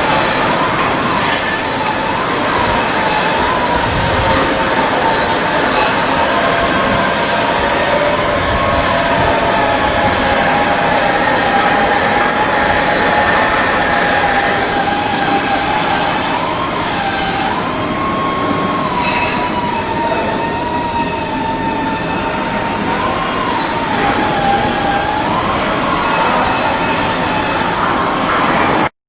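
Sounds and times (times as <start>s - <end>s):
machine whine: 0.0s - 28.9s
rushing noise: 0.0s - 28.9s.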